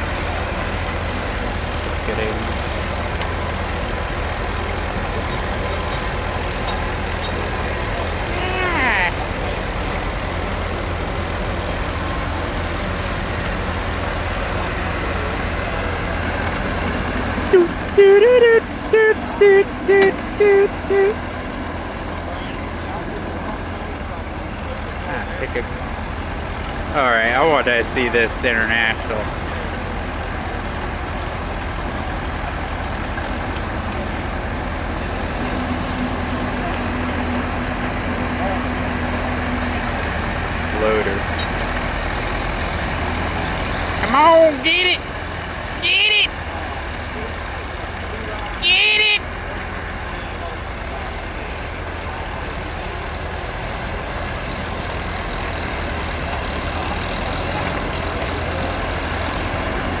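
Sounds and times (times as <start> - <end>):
heavy machine engine rumbling: 0.0 - 60.0.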